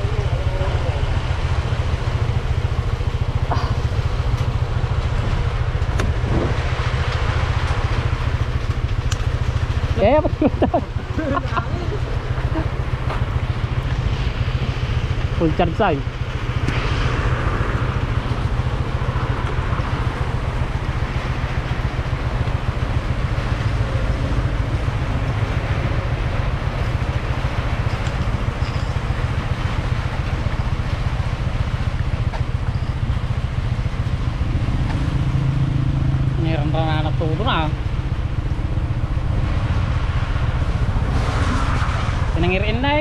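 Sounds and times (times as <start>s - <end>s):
motorcycle engine rumble: 0.0s - 43.0s.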